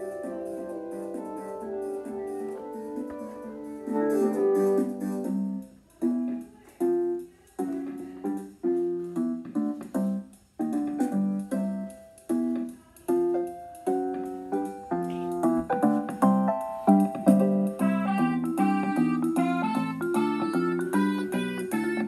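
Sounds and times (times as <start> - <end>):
electronic keyboard piano chords: 0.0 - 22.0.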